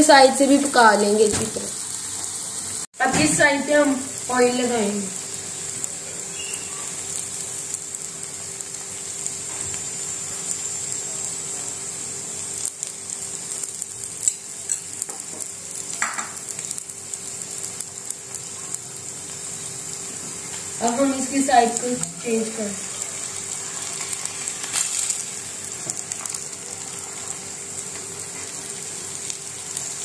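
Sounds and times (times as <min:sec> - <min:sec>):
flatbread sizzling in oil: 0:00.0 - 0:30.0.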